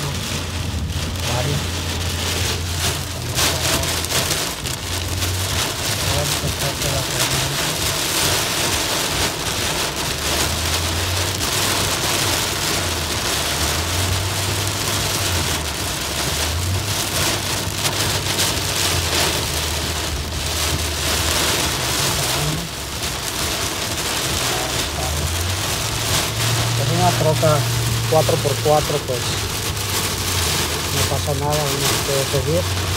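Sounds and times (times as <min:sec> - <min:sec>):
car rumbling on the road: 0:00.0 - 0:32.9
heavy rain on a car: 0:00.0 - 0:32.9.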